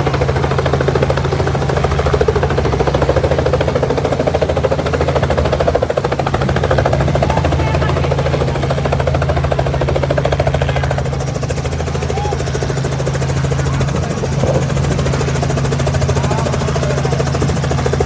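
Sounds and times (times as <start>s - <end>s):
helicopter engine hum: 0.0s - 18.0s
helicopter rotor chop: 0.0s - 18.0s.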